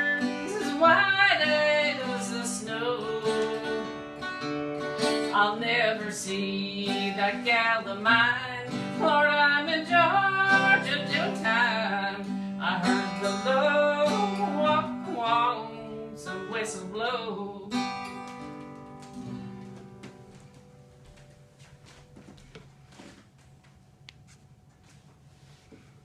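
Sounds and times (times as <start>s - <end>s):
strummed guitar: 0.0s - 23.2s.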